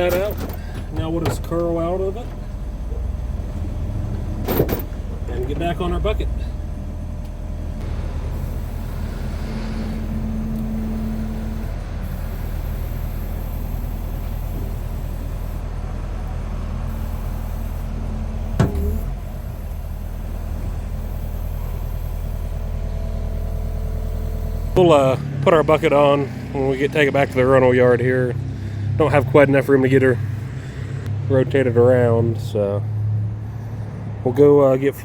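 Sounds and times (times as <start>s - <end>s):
hydraulic humming tone: 0.0s - 34.2s
excavator diesel engine running: 0.0s - 35.0s.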